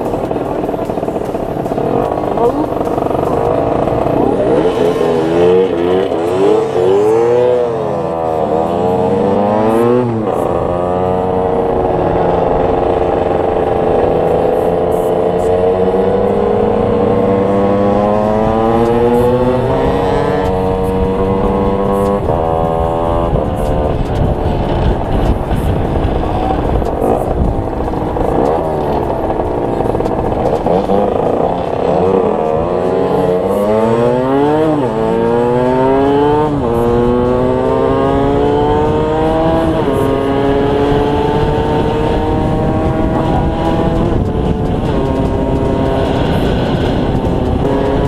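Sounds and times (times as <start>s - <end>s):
two-stroke motorcycle engine: 0.0s - 48.0s.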